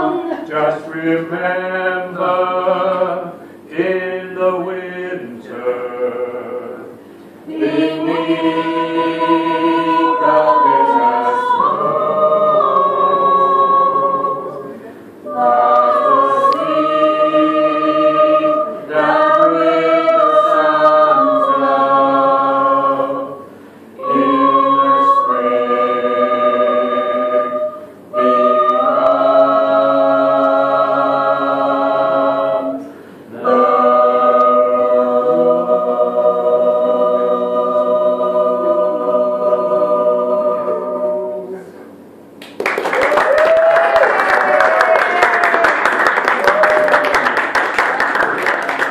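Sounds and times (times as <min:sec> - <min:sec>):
choir singing a cappella: 0:00.0 - 0:42.1.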